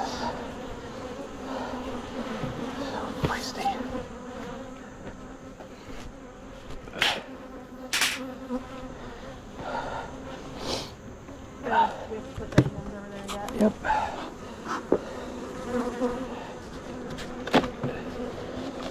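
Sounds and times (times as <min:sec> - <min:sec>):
bees buzzing: 0:00.0 - 0:18.9.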